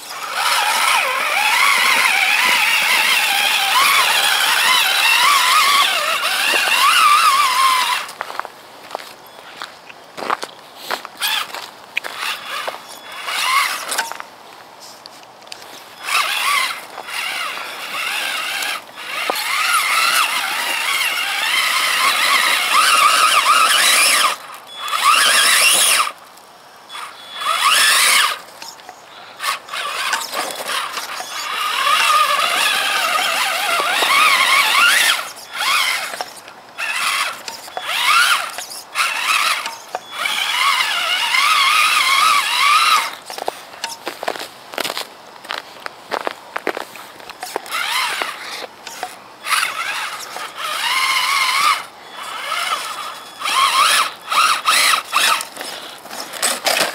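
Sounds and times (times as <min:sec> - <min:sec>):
toy truck electric motor whining: 0:00.0 - 0:08.5, 0:11.2 - 0:14.2, 0:15.5 - 0:56.9.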